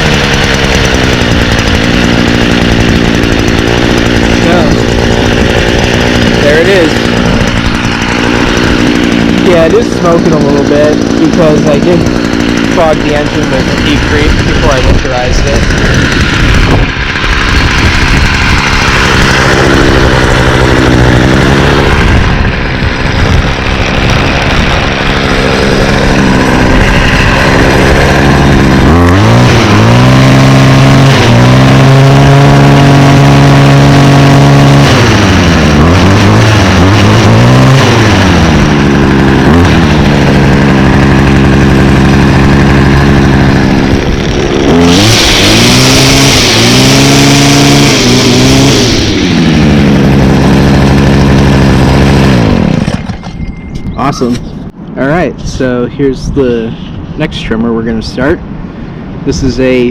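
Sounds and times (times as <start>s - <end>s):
string trimmer engine revving: 0.0s - 53.4s.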